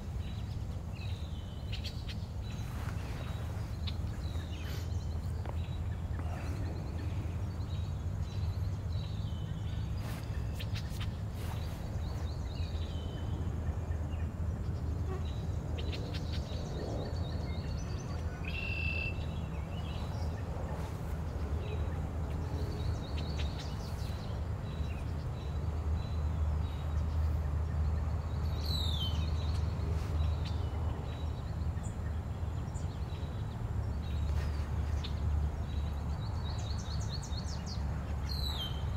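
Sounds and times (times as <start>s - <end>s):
small birds chirping: 0.0s - 38.9s
steady low rumble: 0.0s - 38.9s.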